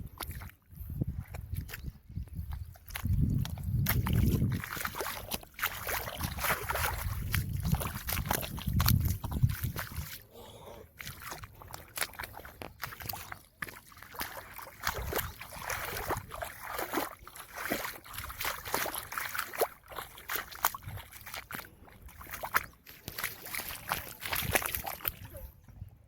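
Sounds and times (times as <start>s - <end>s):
water sloshing and splashing: 0.0s - 25.6s.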